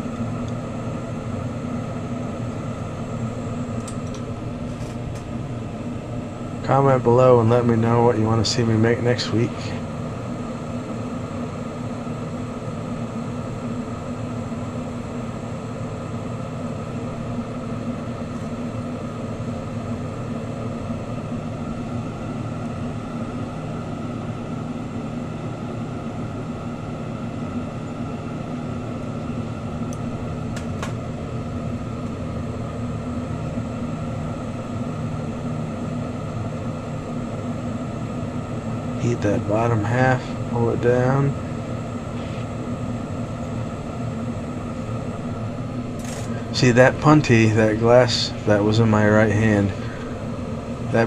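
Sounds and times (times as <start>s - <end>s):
torch flame roaring: 0.0s - 51.0s.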